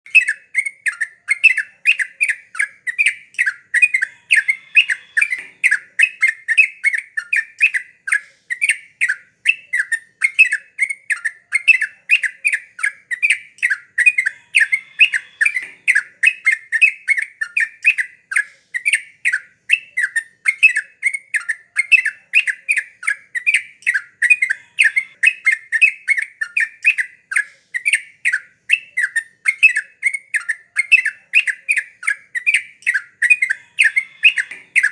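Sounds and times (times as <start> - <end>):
bird singing bubbling notes: 0.1 - 19.0, 19.7 - 27.1, 28.7 - 34.9.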